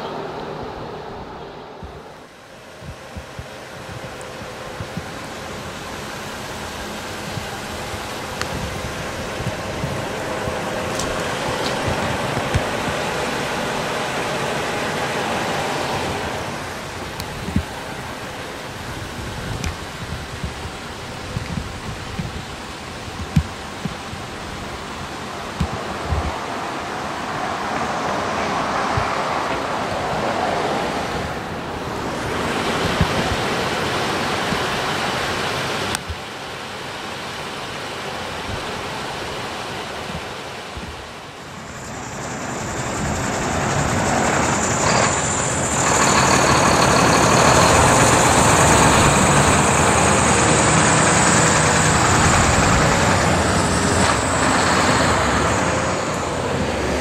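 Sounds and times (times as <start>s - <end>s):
road traffic passing: 0.0s - 36.0s, 38.8s - 57.0s.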